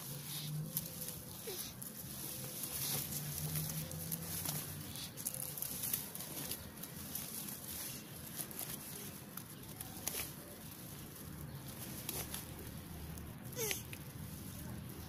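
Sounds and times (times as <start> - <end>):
dry grass rustling: 0.0 - 15.0.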